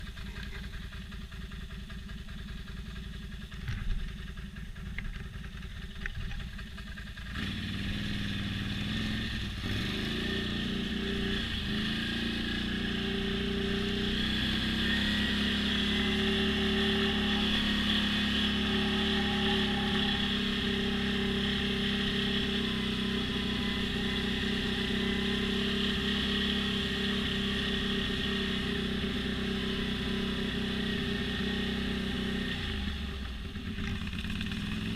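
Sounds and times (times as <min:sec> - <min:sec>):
atv engine revving: 0:04.8 - 0:34.9.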